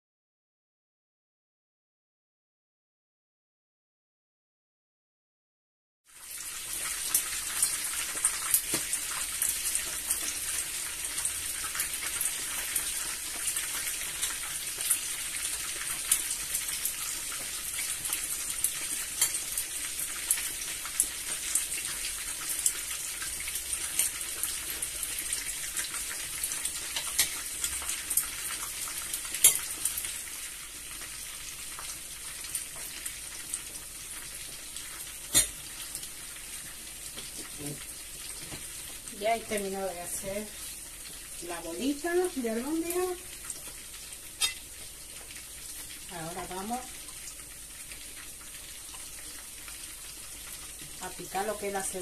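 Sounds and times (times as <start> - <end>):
meatballs sizzling in oil: 6.0 - 52.0.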